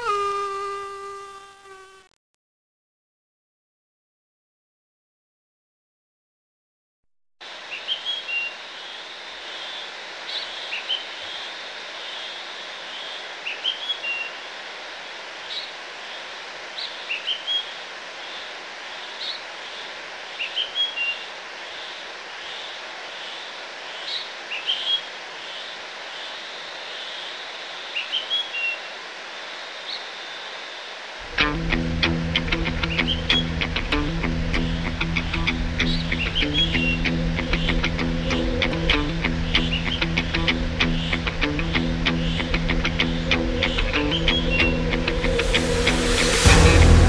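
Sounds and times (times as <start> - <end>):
outdoor background hiss: 0.0 - 2.1, 7.4 - 47.0
songbird chirping: 7.7 - 14.4, 15.4 - 47.0.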